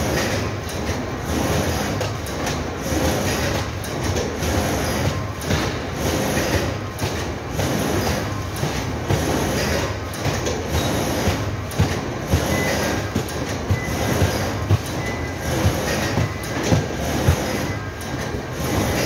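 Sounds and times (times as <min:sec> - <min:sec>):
factory machinery running: 0:00.0 - 0:19.0.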